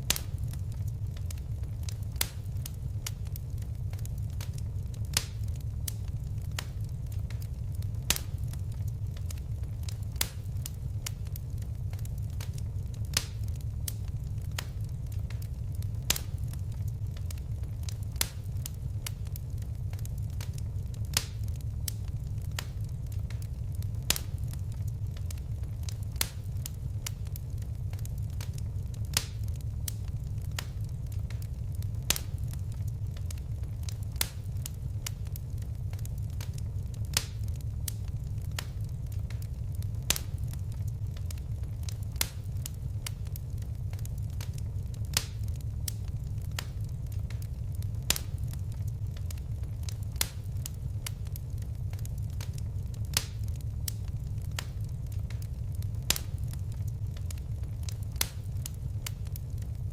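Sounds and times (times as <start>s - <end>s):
fire sharp snaps: 0.0s - 59.9s
fire small pops: 0.0s - 59.9s
low rumble of flames: 0.0s - 59.9s.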